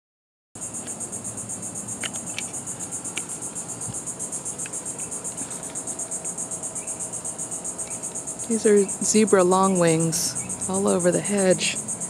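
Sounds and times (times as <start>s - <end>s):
insects buzzing: 0.6s - 12.0s.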